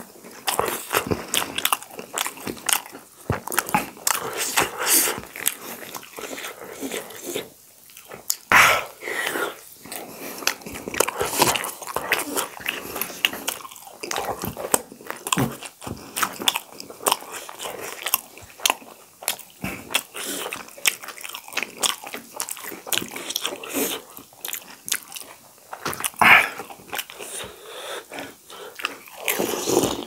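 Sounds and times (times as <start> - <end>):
food crunching: 0.0 - 8.5, 9.2 - 30.0
wet chewing smacks and clicks: 0.3 - 8.5, 9.9 - 27.5.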